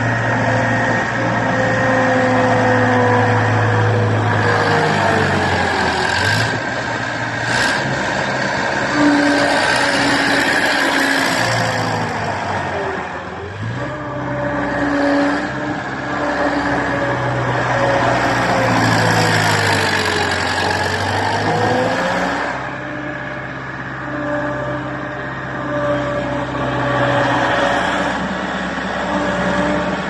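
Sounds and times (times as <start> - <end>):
diesel engine under varying throttle: 0.0 - 30.0.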